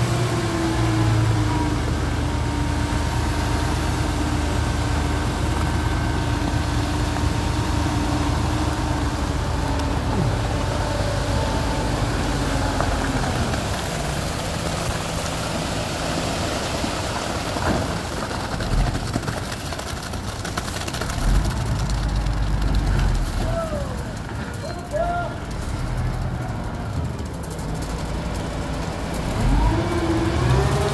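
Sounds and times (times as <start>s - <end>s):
engine running: 0.0s - 30.9s.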